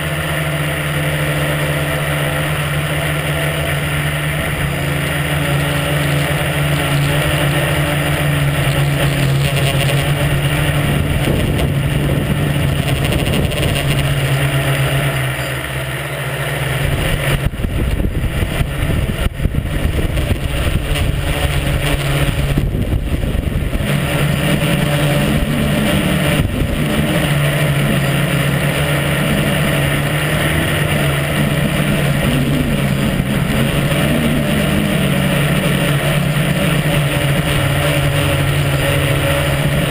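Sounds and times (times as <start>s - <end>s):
electric motors and propellers whining: 0.0s - 39.9s.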